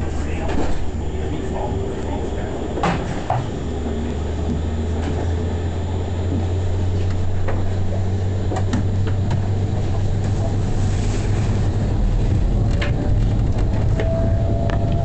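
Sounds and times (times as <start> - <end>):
tram motors and wheels humming: 0.0 - 15.0.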